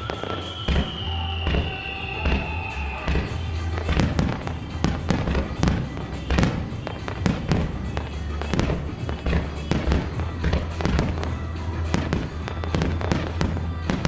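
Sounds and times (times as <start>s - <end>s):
firework shells bursting: 0.0s - 14.0s
music over sound system: 0.0s - 14.0s.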